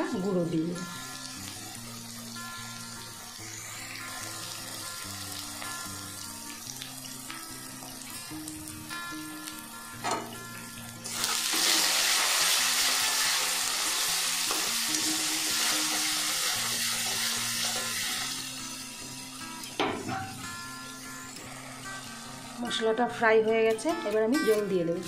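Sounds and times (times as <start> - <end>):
spices sizzling in hot oil: 0.0 - 25.0.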